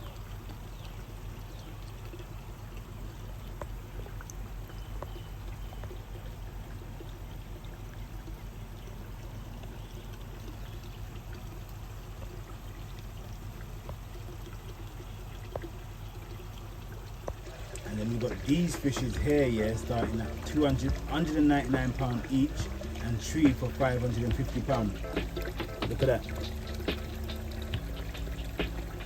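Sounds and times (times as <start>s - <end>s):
constant low hum: 0.0s - 29.0s
water pouring and trickling: 0.0s - 29.0s.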